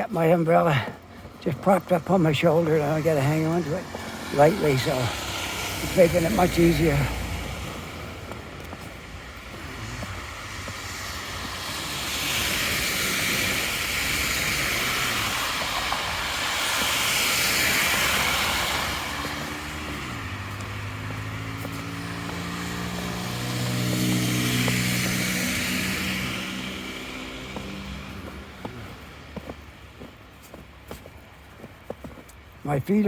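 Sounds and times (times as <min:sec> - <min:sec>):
tyres hissing on snowy street: 0:00.0 - 0:33.0
vehicle engine hum: 0:01.0 - 0:32.6.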